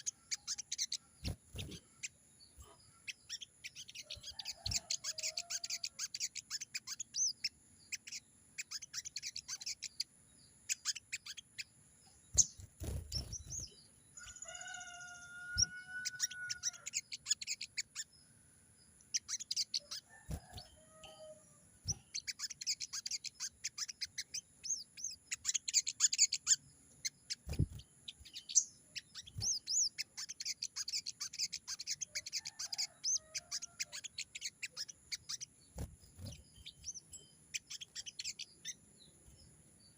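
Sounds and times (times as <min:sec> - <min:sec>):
bird chirping rapidly: 0:00.0 - 0:18.2, 0:18.9 - 0:39.9.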